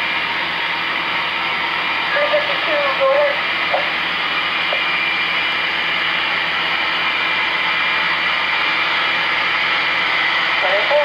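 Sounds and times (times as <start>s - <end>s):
model locomotive engine drone: 0.0s - 11.0s.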